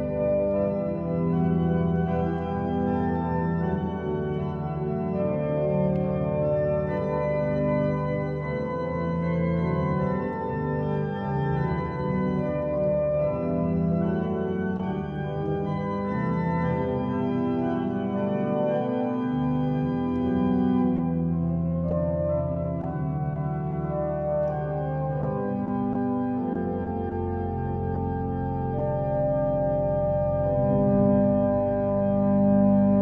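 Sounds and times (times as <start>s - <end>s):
organ playing a hymn: 0.0s - 33.0s.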